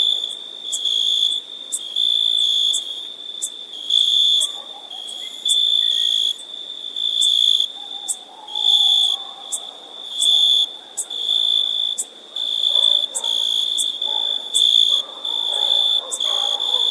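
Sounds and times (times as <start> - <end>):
insect high-pitched trill: 0.0 - 16.9.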